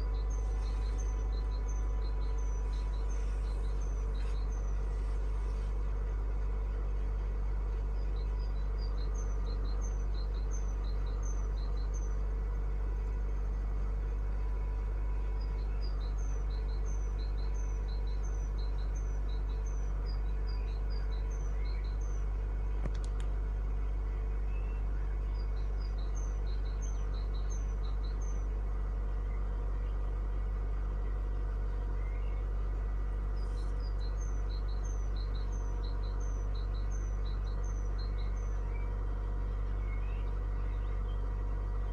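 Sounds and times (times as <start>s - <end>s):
bird chirping: 0.0s - 41.9s
car engine idling: 0.0s - 41.9s.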